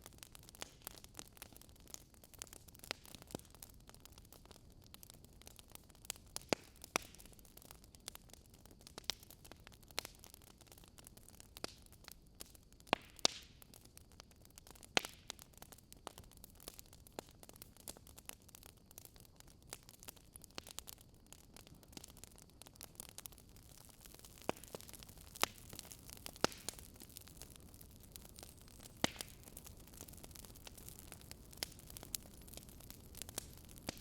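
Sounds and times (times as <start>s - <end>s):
campfire snaps and pops: 0.0s - 34.0s
faint fire hiss: 0.0s - 34.0s.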